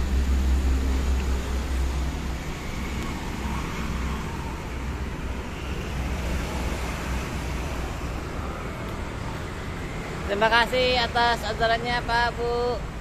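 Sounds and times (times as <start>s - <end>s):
road traffic rumble and hiss: 0.0s - 13.0s.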